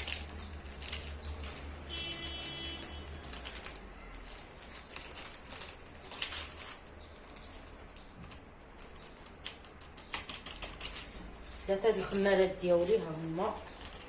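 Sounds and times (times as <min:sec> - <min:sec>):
paper sachets crinkling: 0:00.0 - 0:14.0.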